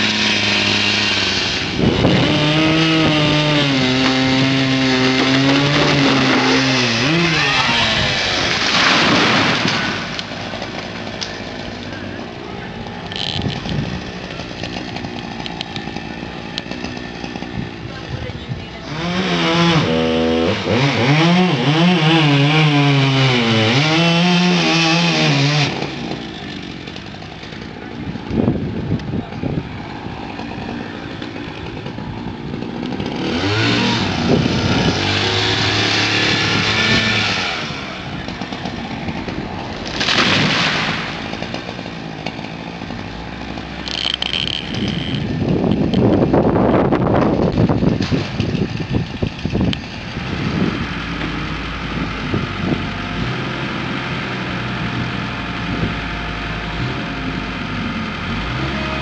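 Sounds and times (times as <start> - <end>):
chainsaw cutting wood: 0.0 - 18.2, 18.8 - 59.0.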